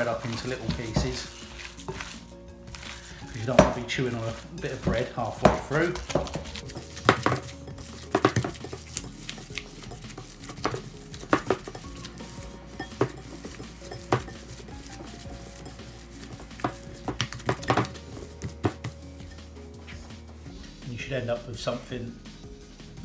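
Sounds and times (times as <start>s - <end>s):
hands kneading meat in a bowl: 0.0s - 21.8s.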